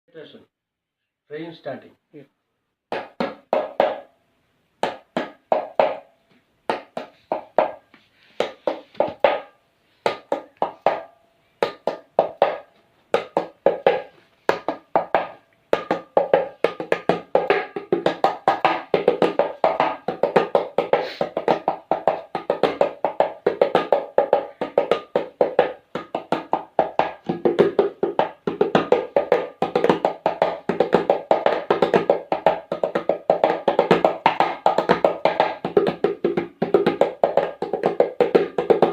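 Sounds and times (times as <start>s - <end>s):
hand percussion rhythm: 2.9s - 4.1s, 4.8s - 6.1s, 6.7s - 38.9s.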